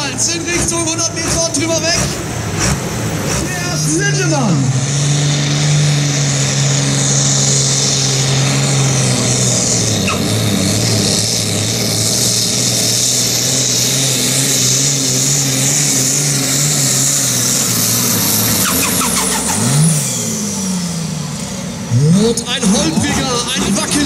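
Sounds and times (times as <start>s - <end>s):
tractor diesel engine revving: 0.0s - 24.0s.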